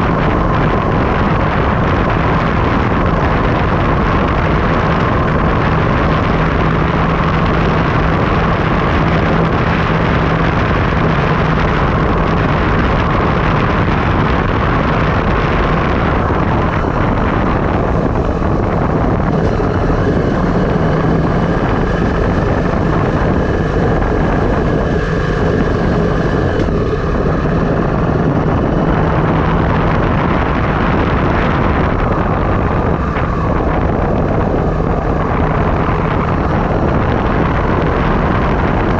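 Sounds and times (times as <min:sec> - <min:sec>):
rumbling road noise: 0:00.0 - 0:38.9
wind rushing over microphone: 0:00.0 - 0:38.9.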